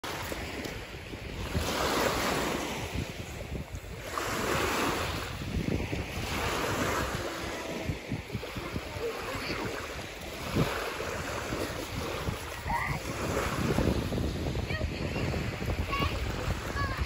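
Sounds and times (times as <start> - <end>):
waves washing onto sand shore: 0.0 - 17.0
wind buffeting microphone: 0.0 - 17.0.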